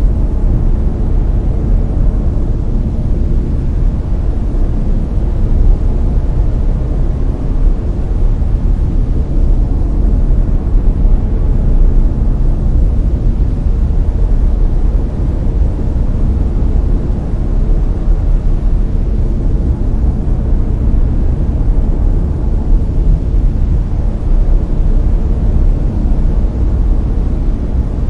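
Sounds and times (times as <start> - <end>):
brown noise: 0.0 - 28.0.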